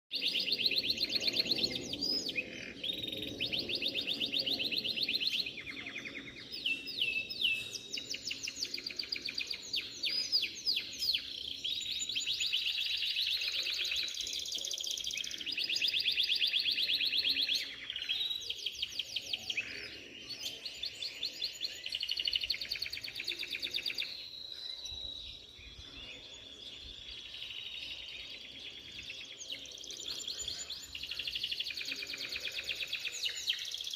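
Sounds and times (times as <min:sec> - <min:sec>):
canaries singing trills: 0:00.1 - 0:33.9.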